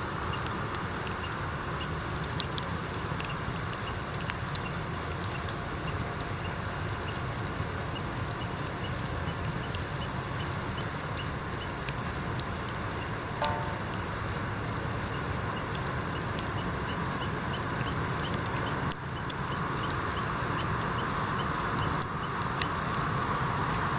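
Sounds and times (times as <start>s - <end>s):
firewood crackling and popping: 0.0s - 23.9s.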